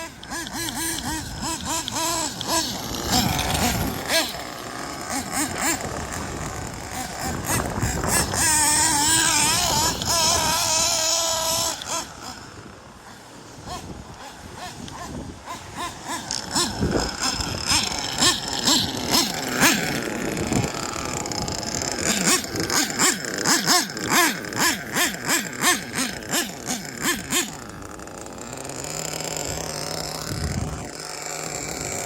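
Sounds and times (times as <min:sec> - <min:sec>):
model car engine revving: 0:00.0 - 0:32.0.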